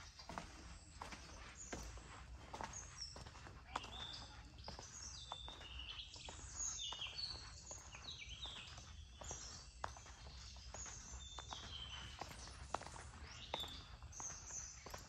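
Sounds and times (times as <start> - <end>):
birds calling: 0.0 - 15.0
footsteps on sandy ground: 0.0 - 15.0.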